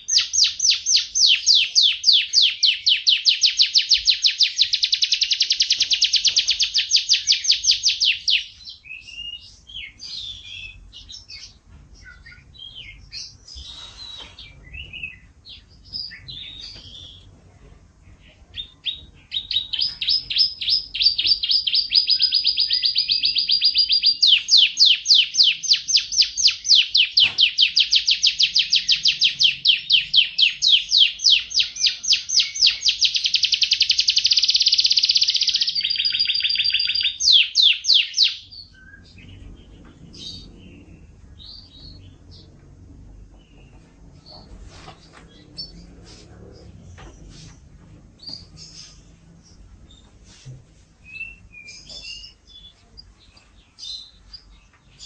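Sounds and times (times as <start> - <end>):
canary singing: 0.0 - 17.3, 18.1 - 46.0, 48.2 - 50.2, 51.0 - 55.0.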